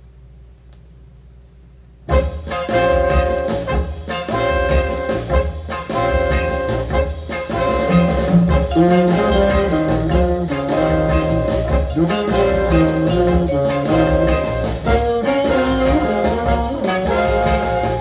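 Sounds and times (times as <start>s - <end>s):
brass-led jazz from speakers: 2.0s - 18.0s.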